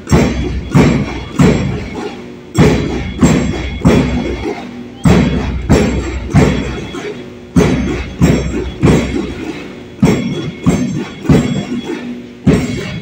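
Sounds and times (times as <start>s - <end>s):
bass drum marching cadence: 0.0s - 13.0s.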